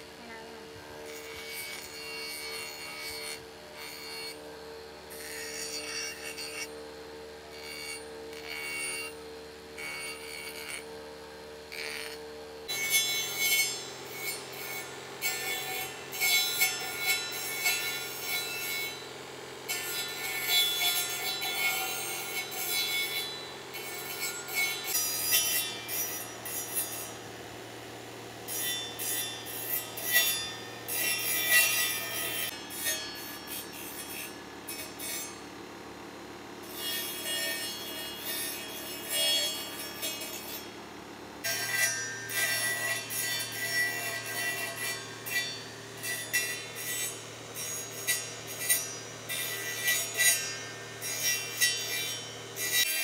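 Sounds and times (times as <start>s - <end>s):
sanding disc motor humming: 0.0s - 53.0s.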